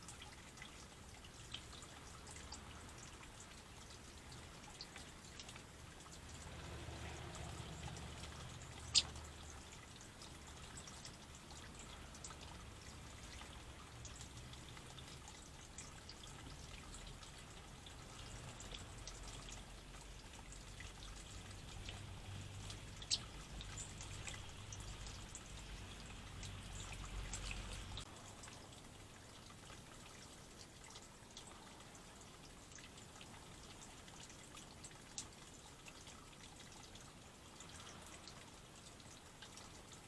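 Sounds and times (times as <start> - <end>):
water trickling and dripping: 0.0 - 40.0.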